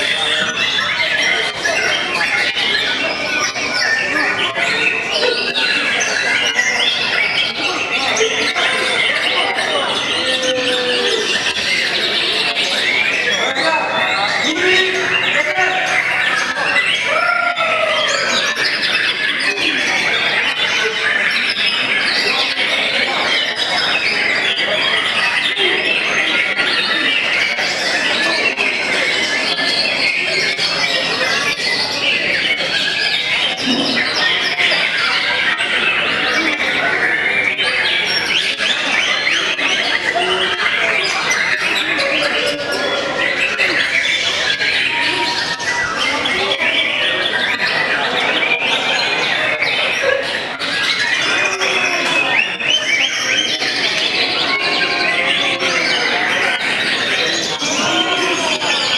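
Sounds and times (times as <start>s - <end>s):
birds singing whistles and chatter: 0.0s - 58.9s.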